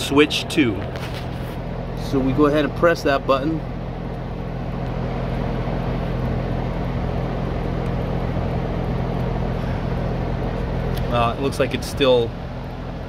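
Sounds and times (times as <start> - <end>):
heat pump hum: 0.0 - 13.0.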